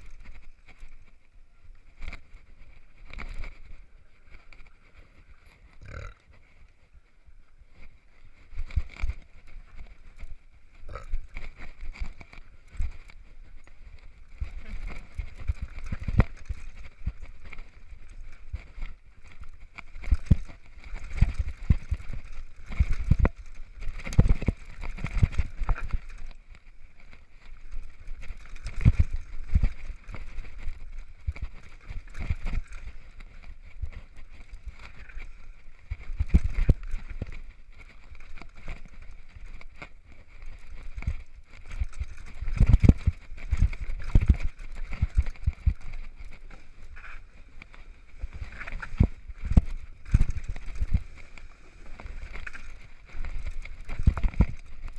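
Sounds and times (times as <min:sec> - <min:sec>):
mountain bike rumbling on dirt trail: 0:00.0 - 0:54.9.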